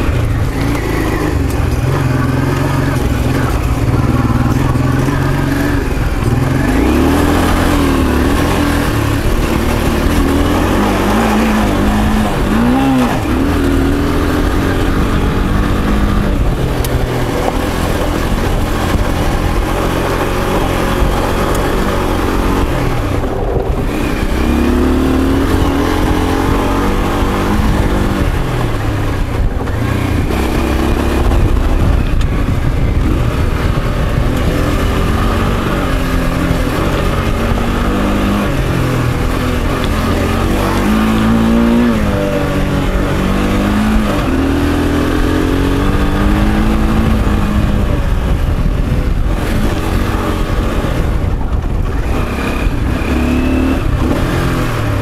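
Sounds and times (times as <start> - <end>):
motorcycle engine revving uphill: 0.0 - 55.0.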